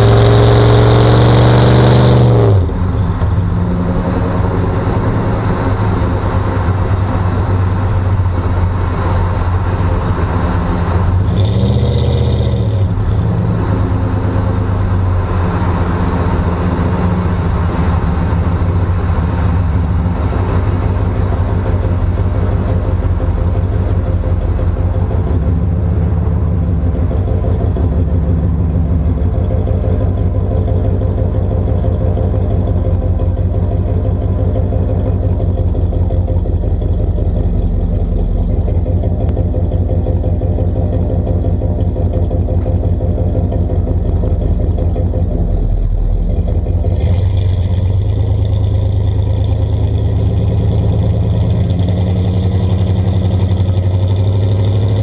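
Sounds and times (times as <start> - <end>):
truck exhaust running loud: 0.0 - 55.0.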